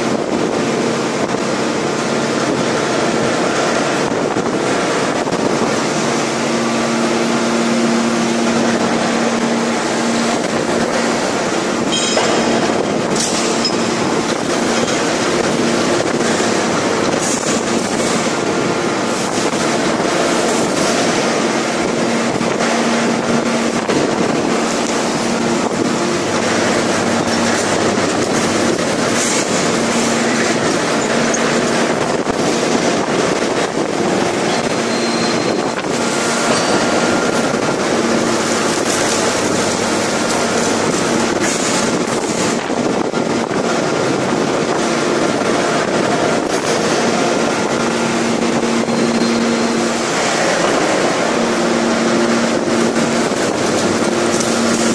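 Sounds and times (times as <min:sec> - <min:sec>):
hydraulic press machinery rushing: 0:00.0 - 0:54.9
low machinery hum: 0:00.0 - 0:54.9.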